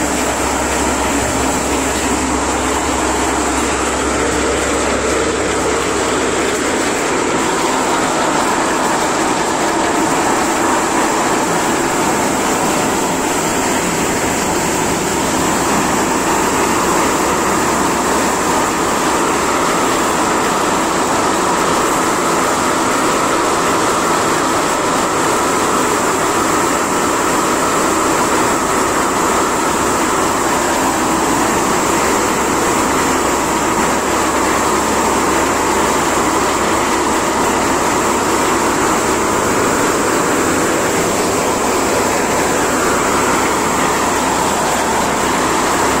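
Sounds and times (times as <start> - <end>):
high machine whine: 0.0 - 46.0
thresher machine running: 0.0 - 46.0.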